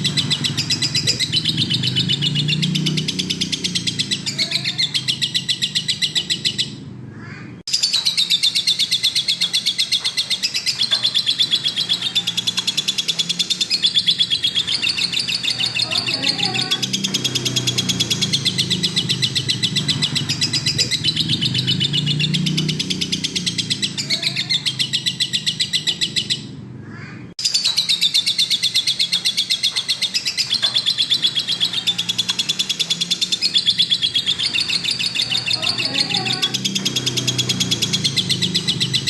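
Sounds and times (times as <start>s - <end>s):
bird trilling chirps: 0.0s - 39.0s.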